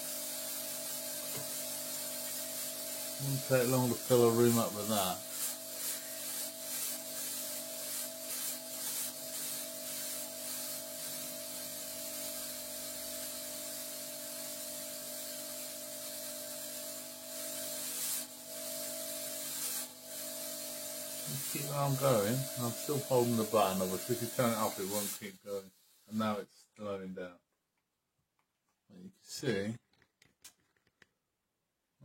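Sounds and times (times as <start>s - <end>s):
fog machine hiss: 0.0s - 26.5s.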